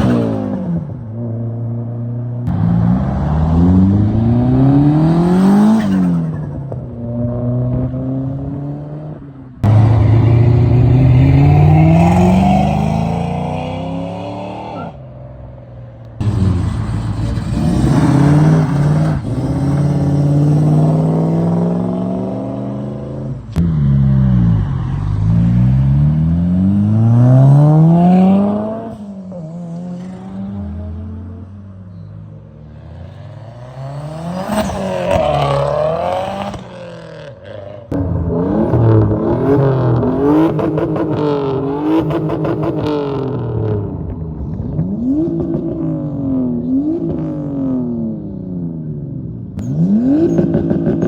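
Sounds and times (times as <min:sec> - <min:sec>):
car engines revving: 0:00.0 - 0:51.0.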